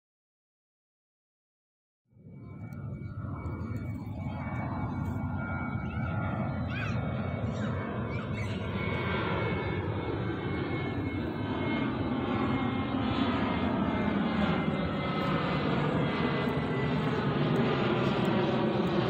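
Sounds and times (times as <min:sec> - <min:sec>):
jet engine roar: 0:02.2 - 0:19.0.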